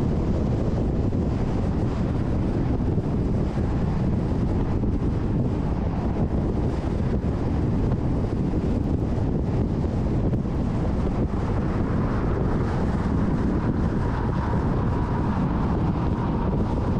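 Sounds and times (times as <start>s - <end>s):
car driving rumble: 0.0s - 16.9s
wind on microphone: 0.0s - 16.9s.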